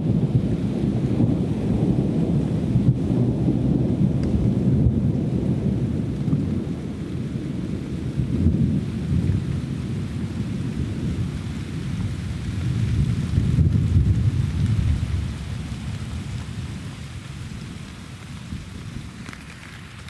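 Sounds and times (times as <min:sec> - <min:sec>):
rain falling: 0:00.0 - 0:20.0
rolling thunder: 0:00.0 - 0:20.0.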